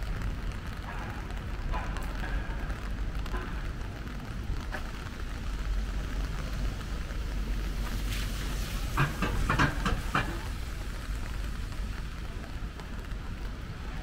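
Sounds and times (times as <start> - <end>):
low rumble of traffic: 0.0 - 14.0
rain hissing on wet pavement: 0.0 - 14.0.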